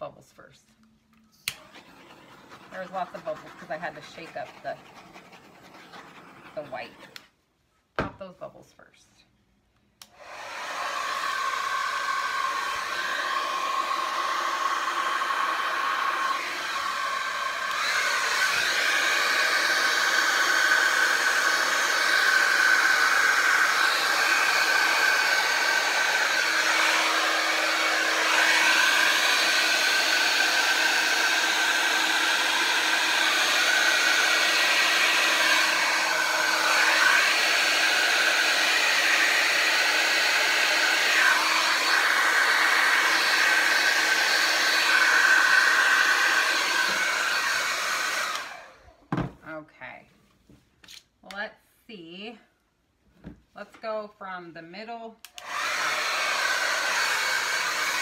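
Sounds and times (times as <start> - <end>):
blow dryer running: 1.4 - 7.2, 10.0 - 49.6, 55.3 - 58.0.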